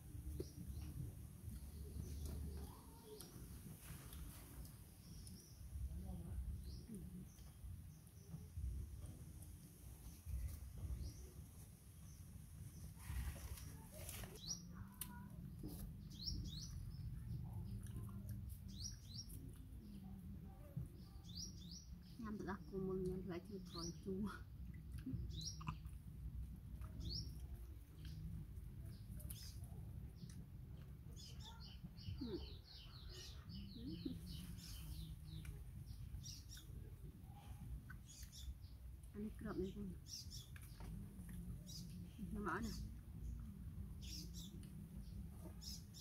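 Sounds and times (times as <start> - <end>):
small bird chirping: 0.1 - 9.1, 9.8 - 46.0.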